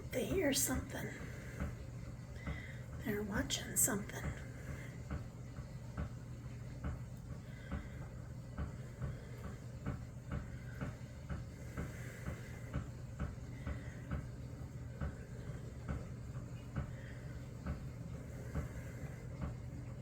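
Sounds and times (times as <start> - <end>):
dishwasher humming: 0.0 - 20.0.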